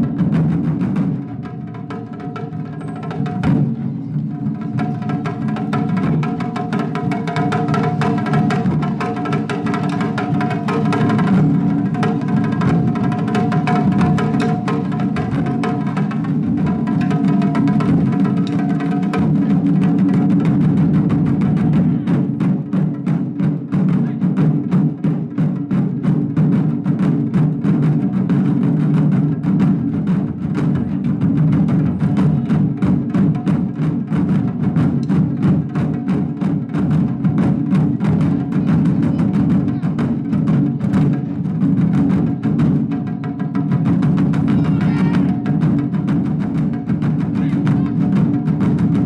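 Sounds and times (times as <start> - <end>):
drums beaten in fast rhythm: 0.0 - 49.0.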